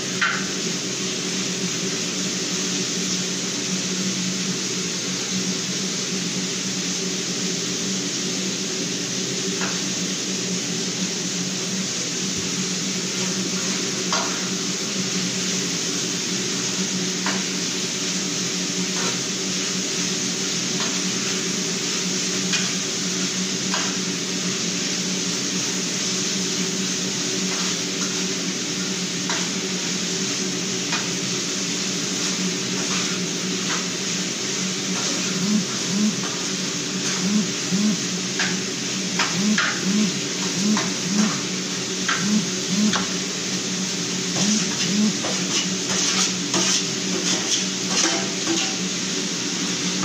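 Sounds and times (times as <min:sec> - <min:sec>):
gas stove hum and hiss: 0:00.0 - 0:50.0.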